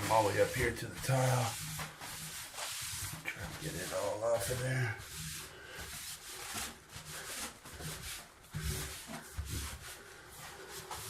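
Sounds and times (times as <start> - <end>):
scrubbing a bathtub: 0.0 - 11.0.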